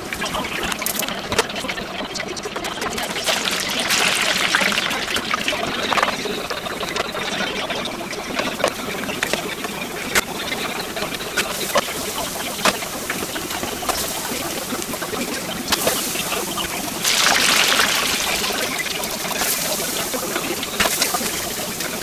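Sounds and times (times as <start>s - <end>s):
hot oil sizzling: 2.8s - 22.0s.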